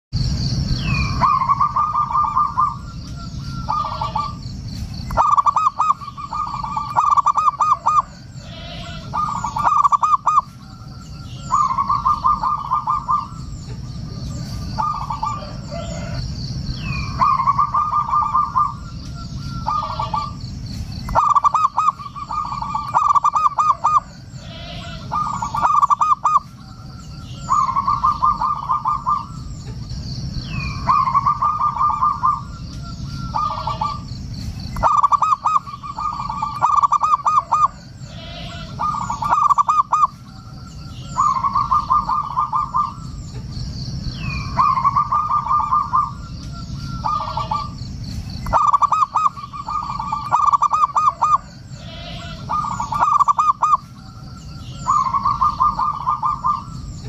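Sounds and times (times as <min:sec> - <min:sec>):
dove cooing: 0:00.8 - 0:43.6, 0:44.2 - 0:57.0.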